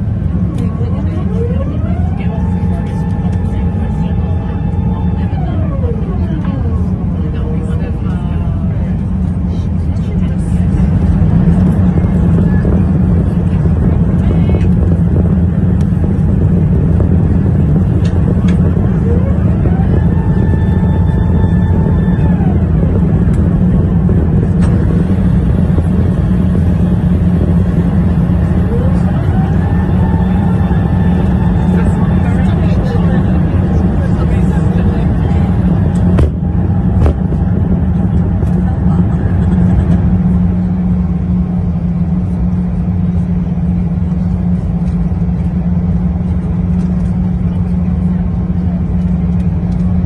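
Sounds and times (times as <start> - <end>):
airplane cabin engine rumble: 0.0 - 50.0.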